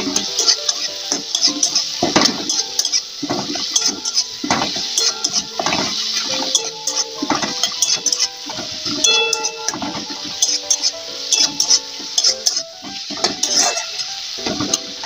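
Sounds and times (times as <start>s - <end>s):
metal spatula scraping metal pan: 0.0s - 15.0s.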